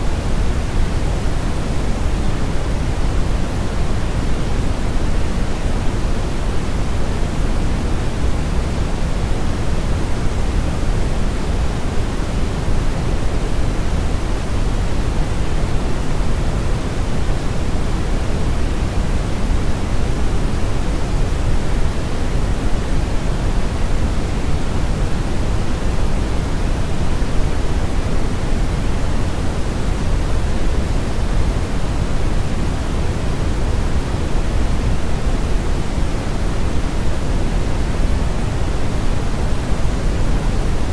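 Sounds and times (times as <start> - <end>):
brown noise hiss: 0.0 - 40.9.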